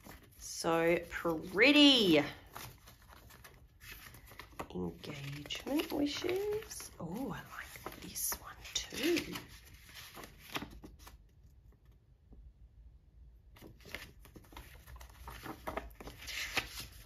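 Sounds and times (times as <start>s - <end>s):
paper cards rustling and sliding: 0.0s - 12.0s, 13.6s - 17.0s.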